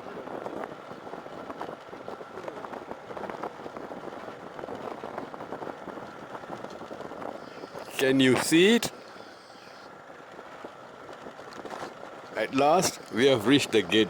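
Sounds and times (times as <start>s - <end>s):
rattles and knocks from rough road: 0.1s - 8.5s, 10.0s - 14.0s.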